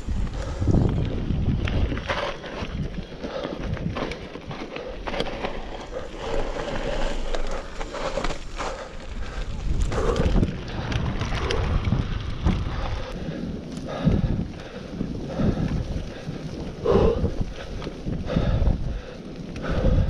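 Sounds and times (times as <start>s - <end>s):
bike clattering over bumps: 0.0s - 20.0s
tyres rolling over gravel: 0.0s - 20.0s
wind buffeting microphone: 0.0s - 20.0s.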